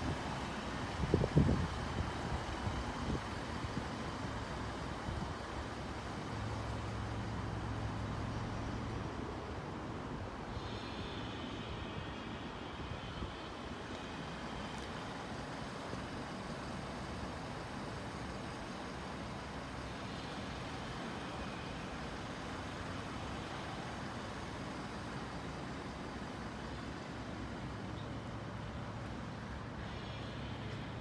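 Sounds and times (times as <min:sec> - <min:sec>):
road traffic hum: 0:00.0 - 0:31.0.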